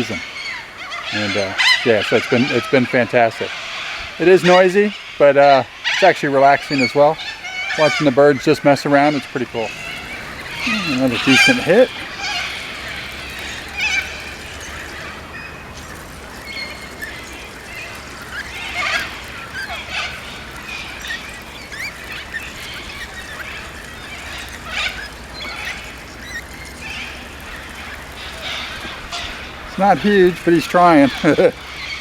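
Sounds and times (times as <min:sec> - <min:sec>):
birds calling: 0:00.0 - 0:32.0.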